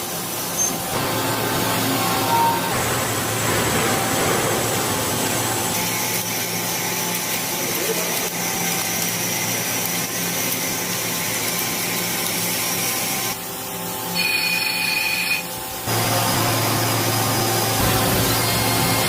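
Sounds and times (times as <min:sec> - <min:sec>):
power tool humming: 0:00.0 - 0:19.0.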